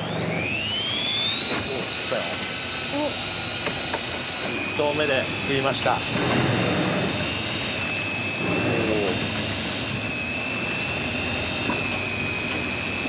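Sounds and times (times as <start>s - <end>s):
high whining engine tones: 0.0s - 13.0s.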